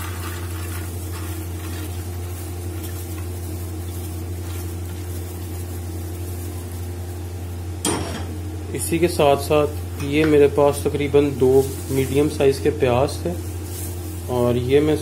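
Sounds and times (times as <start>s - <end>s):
lentils pattering into metal pot: 0.0s - 7.1s, 10.0s - 15.0s
steady low electrical hum: 0.0s - 15.0s.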